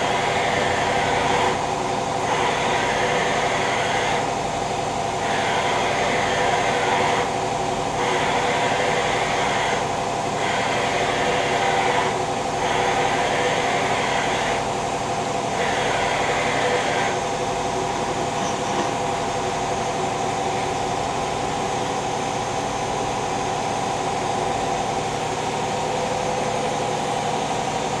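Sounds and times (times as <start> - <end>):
high-pitched machine noise: 0.0 - 28.0
machine hum with held tones: 0.0 - 28.0.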